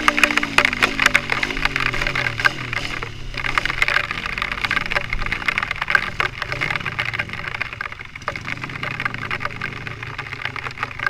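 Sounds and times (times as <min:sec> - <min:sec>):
crackling and clicking noise: 0:00.0 - 0:11.0
vehicle engine humming: 0:00.0 - 0:11.0.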